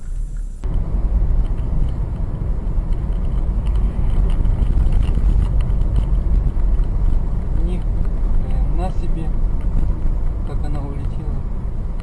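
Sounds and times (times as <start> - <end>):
car interior engine and tyre rumble: 0.0 - 12.0.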